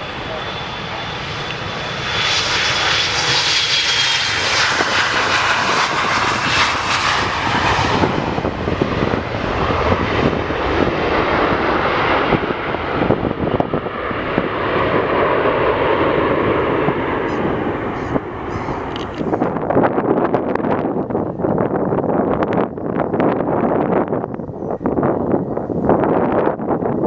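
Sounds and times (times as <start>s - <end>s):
jet engine whine: 0.0s - 27.0s
jet engines roaring: 0.0s - 27.0s.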